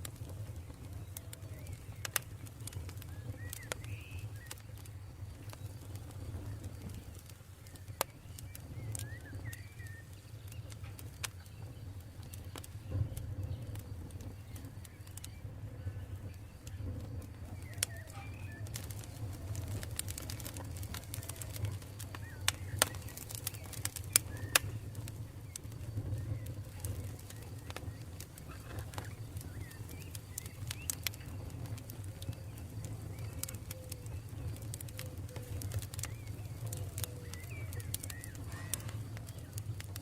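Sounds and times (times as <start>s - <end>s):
campfire crackling and popping: 0.0s - 40.0s
faint bird chirps: 0.4s - 40.0s.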